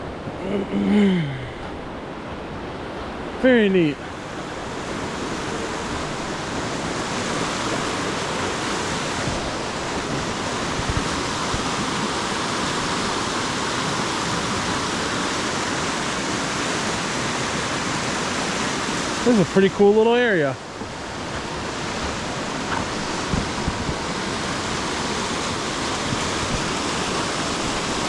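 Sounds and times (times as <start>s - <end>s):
river rapids and waterfall: 0.0s - 28.0s.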